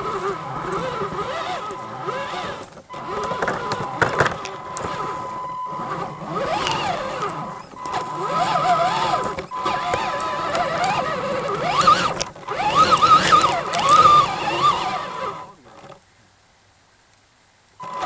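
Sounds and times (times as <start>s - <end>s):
rc truck motor and gears whining: 0.0s - 16.0s, 17.8s - 18.0s
truck clicking and knocking on branches: 0.0s - 16.0s.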